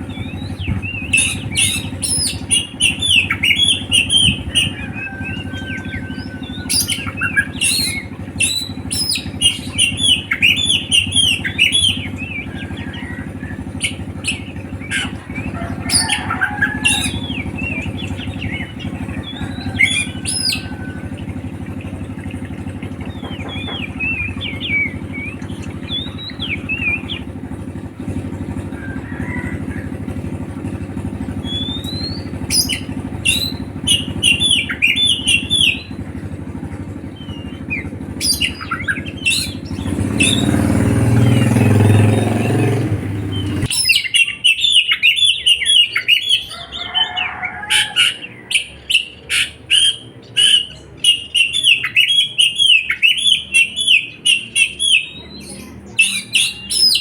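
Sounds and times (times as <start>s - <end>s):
low mechanical hum: 0.0s - 57.0s
songbird chirping: 0.0s - 57.0s.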